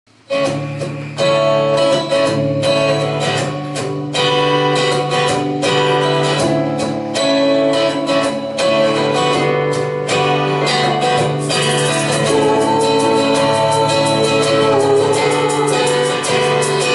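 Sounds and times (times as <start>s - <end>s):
guitar strumming chords: 0.1s - 16.9s.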